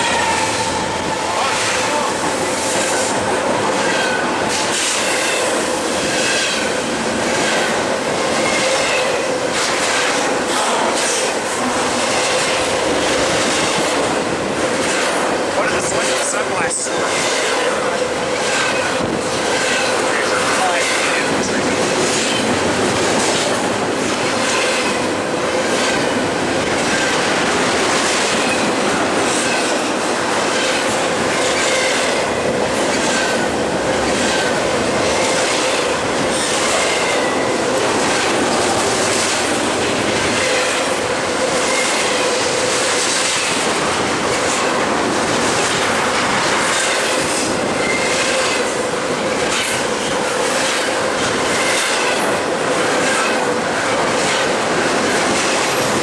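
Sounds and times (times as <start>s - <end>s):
train wheels clacking over rail joints: 0.0s - 56.0s
wheels squealing on rails: 0.0s - 56.0s.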